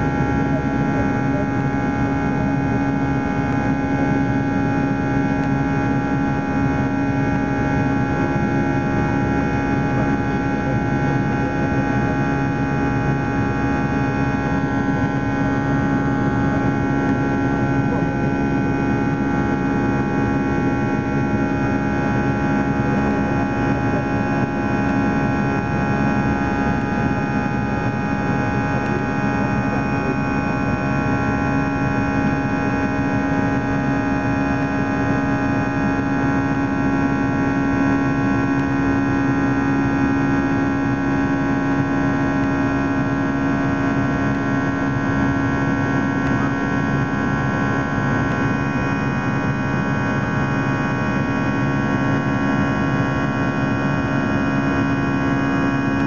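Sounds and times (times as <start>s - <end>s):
jet engine and airflow roar: 0.0s - 56.0s.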